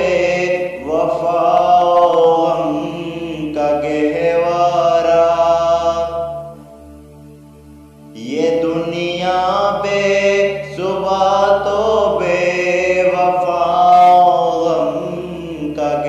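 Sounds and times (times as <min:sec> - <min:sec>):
man singing devotional song: 0:00.0 - 0:06.6, 0:08.2 - 0:16.0
steady drone: 0:00.0 - 0:16.0.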